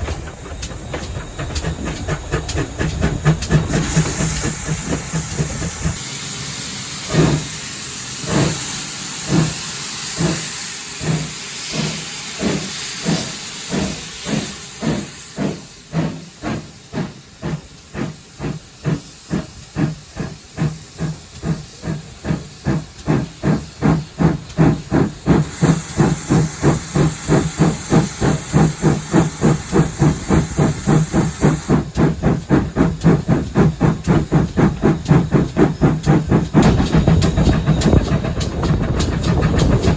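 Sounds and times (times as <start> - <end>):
steam hissing: 0.0 - 39.9
steam locomotive exhaust chuffs: 0.0 - 39.9.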